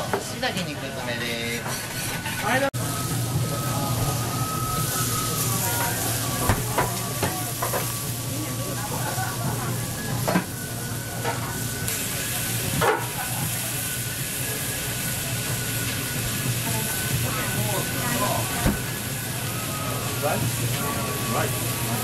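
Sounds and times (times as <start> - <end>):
skewers sizzling on griddle: 0.0 - 22.0.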